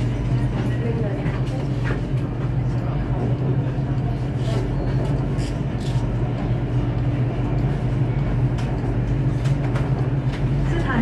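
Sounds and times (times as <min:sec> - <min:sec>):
train hum and rumble: 0:00.0 - 0:11.0.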